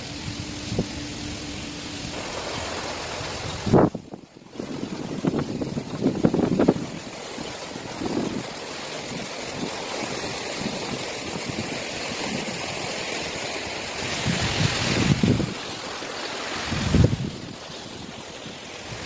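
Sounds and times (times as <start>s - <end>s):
wind noise on microphone: 0.0s - 15.8s, 16.4s - 19.0s
sea wind: 0.0s - 19.0s
small waves lapping on shore: 0.0s - 19.0s.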